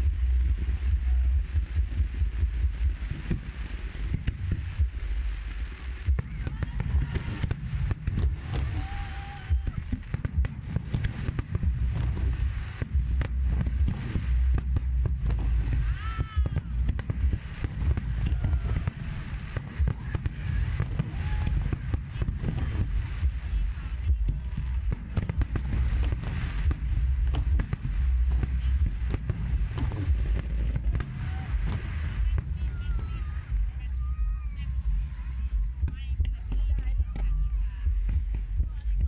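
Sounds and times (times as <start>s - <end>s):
crowd voices: 0.0s - 39.0s
deep rumble: 0.0s - 39.0s
fireworks bangs and crackles: 0.0s - 39.0s.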